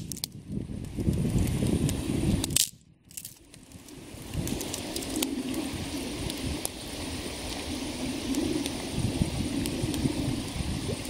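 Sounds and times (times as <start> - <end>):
campfire rushing: 0.0 - 11.0
fire crackling: 0.0 - 11.0.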